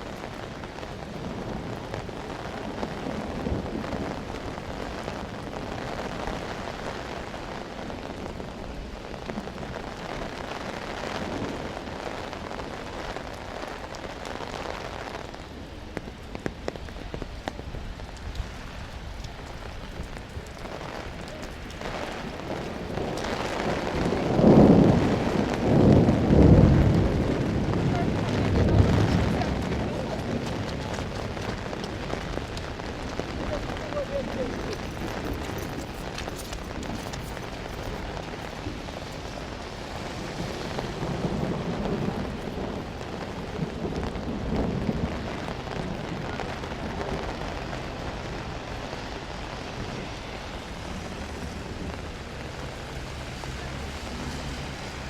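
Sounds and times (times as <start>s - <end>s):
low rumble of thunder: 0.0s - 14.7s, 16.4s - 55.0s
rain pattering on street: 0.0s - 55.0s.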